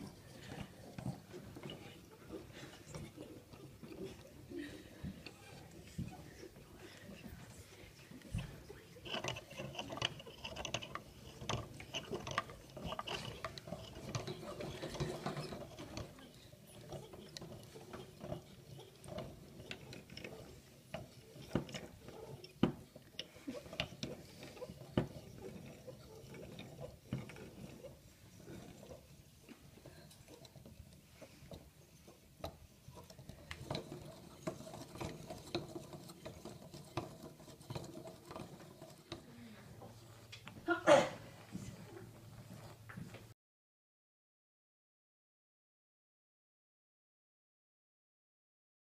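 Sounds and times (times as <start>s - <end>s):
wooden cams clicking and knocking: 0.0s - 40.7s.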